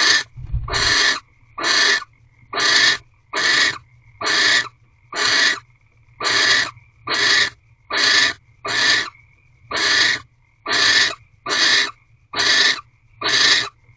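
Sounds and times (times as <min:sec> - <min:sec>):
owl hissing calls: 0:00.0 - 0:05.6, 0:06.2 - 0:13.8.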